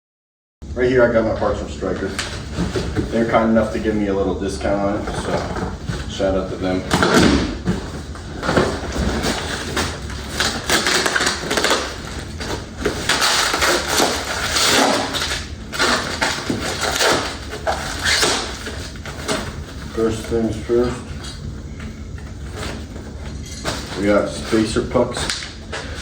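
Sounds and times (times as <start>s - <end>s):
plastic wrapping crinkling: 1.8s - 26.0s.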